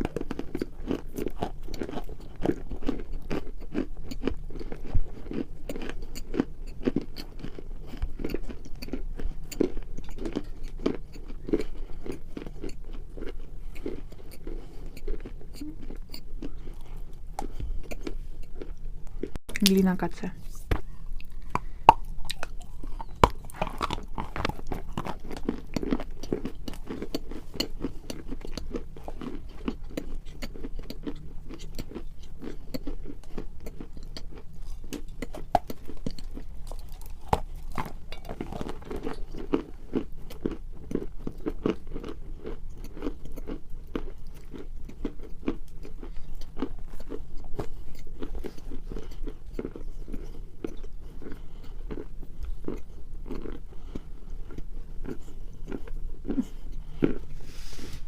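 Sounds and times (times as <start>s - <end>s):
people crunching and chewing: 0.0s - 58.0s.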